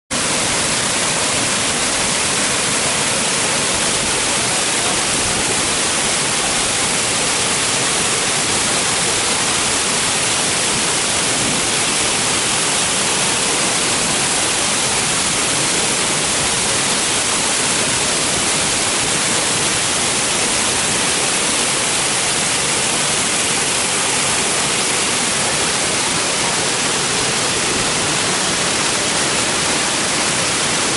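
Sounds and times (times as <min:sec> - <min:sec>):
waterfall rushing: 0:00.1 - 0:30.9.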